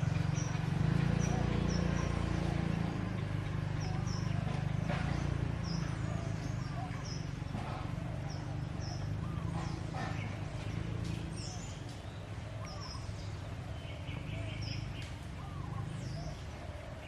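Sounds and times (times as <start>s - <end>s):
soft rise-and-fall bird calls: 0.0s - 17.0s.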